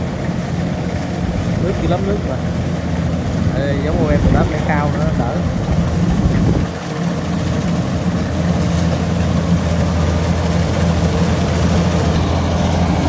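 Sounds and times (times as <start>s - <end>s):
combine harvester engine hum: 0.0s - 13.0s.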